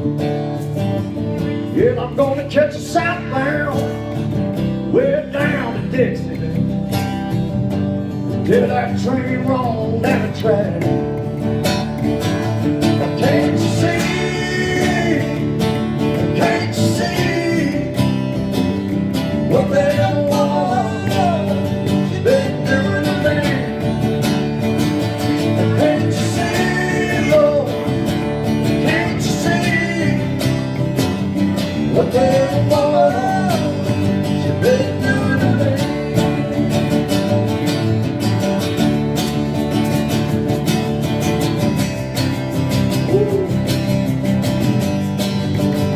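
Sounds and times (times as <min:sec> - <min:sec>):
acoustic guitar strumming: 0:00.0 - 0:45.9
electric bass playing: 0:00.0 - 0:45.9.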